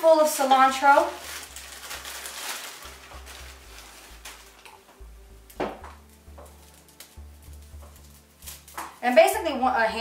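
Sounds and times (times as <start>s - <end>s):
plastic bag crinkling: 0.1s - 9.2s.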